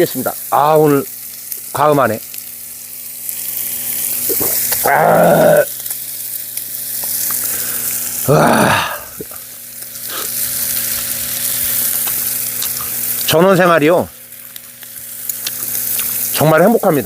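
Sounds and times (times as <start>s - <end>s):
meat sizzling on metal lid: 0.0s - 17.0s.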